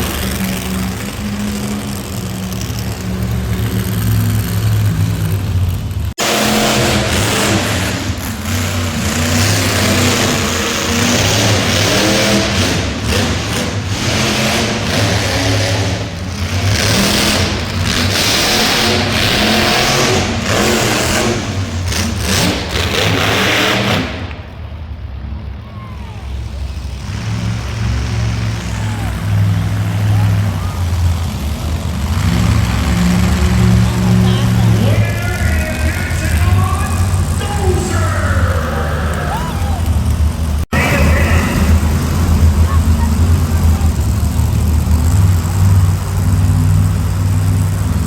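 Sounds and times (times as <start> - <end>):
monster truck engine revving: 0.0 - 48.0.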